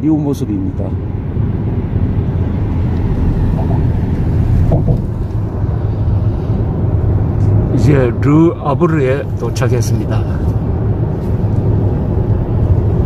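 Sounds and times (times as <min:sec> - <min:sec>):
car cabin road rumble: 0:00.3 - 0:13.0.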